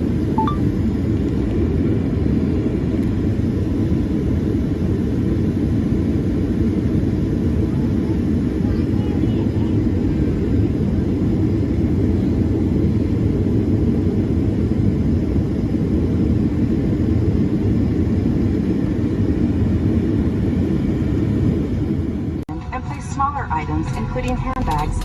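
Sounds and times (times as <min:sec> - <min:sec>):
airliner engines rumbling: 0:00.0 - 0:25.0.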